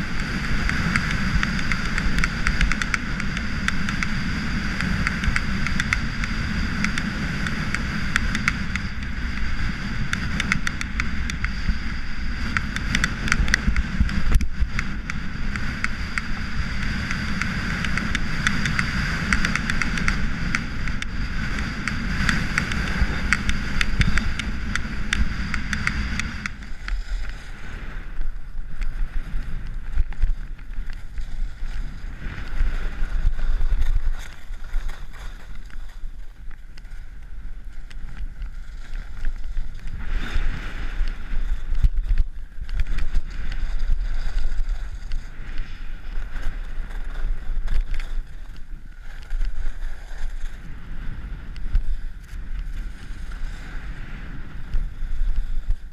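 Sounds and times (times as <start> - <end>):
skis scraping over snow: 0.0 - 55.9
wind rumbling on microphone: 0.0 - 55.9.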